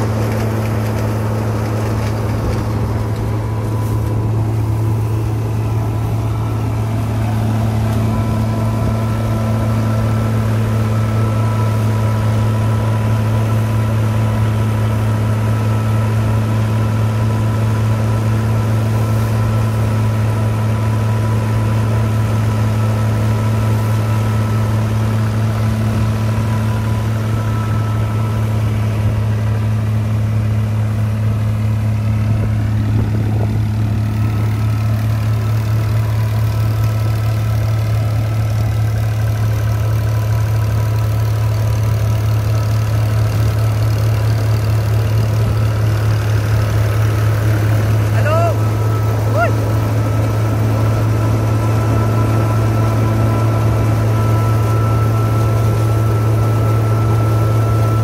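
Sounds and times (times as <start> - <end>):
thresher whine: 0.0 - 58.0
tractor engine running: 0.0 - 58.0.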